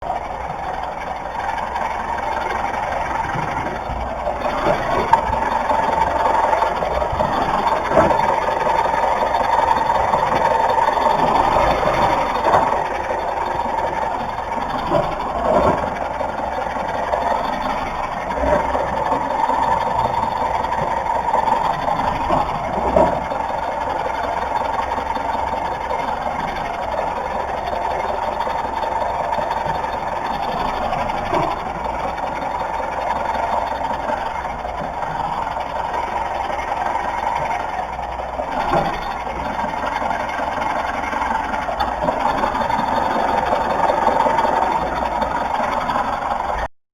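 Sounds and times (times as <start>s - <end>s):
car engine running: 0.0s - 46.7s
road noise: 0.0s - 46.7s.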